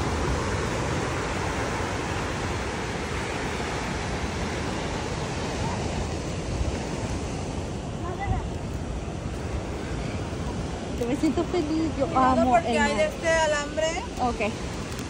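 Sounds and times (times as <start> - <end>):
surf breaking on beach: 0.0 - 15.0
wind on microphone: 0.0 - 15.0.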